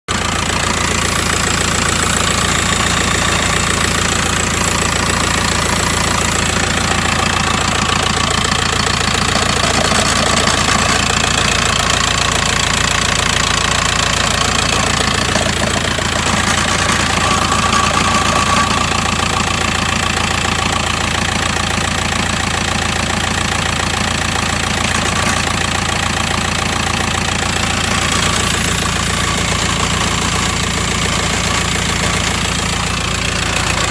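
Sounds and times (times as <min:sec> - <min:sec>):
diesel engine running with rattle: 0:00.0 - 0:33.9.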